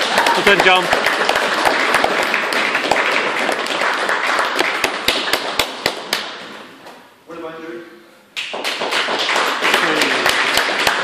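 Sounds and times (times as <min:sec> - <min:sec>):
small group applauding: 0:00.0 - 0:06.5, 0:08.4 - 0:11.0.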